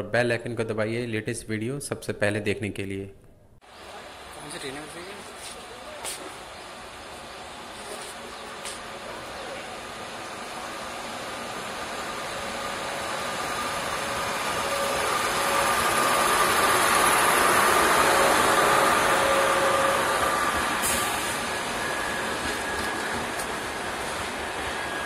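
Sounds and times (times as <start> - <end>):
train passing at speed: 3.6 - 25.0.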